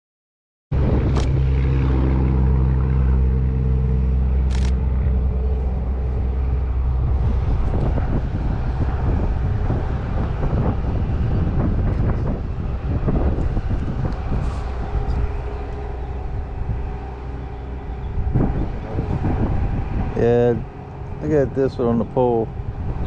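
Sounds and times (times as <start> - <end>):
vehicle engine running: 0.8 - 23.0.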